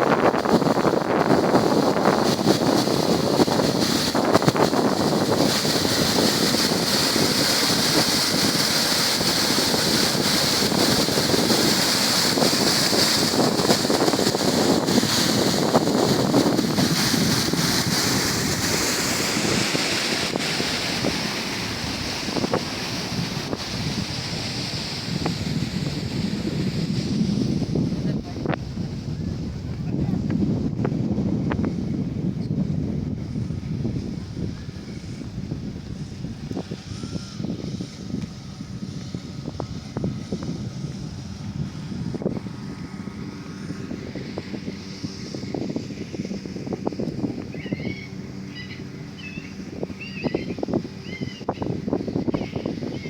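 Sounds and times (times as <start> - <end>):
sea surf washing on shore: 0.0 - 53.0
wind buffeting microphone: 0.0 - 53.0.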